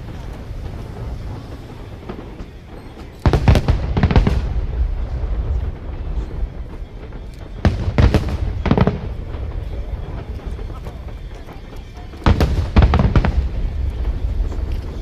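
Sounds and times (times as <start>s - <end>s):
fireworks shells bursting: 0.0s - 15.0s.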